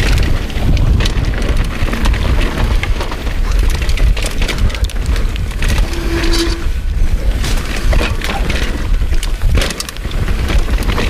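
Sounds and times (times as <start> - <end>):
bike rattling: 0.0 - 11.0
tyres crunching over loose ground: 0.0 - 11.0
wind buffeting microphone: 0.0 - 11.0.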